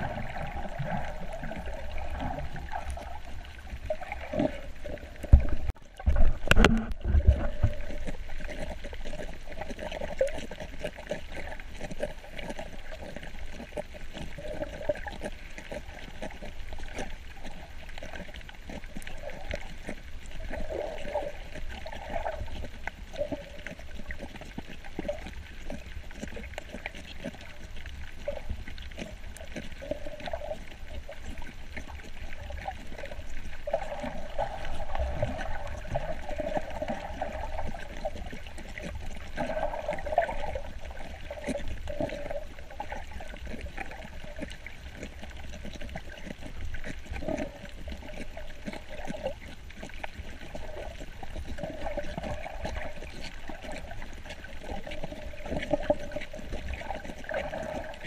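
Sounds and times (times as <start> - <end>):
muffled underwater sloshing: 0.0 - 58.0.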